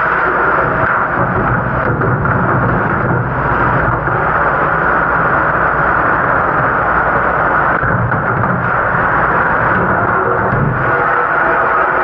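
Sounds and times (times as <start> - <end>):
dish machine humming: 0.0 - 12.0.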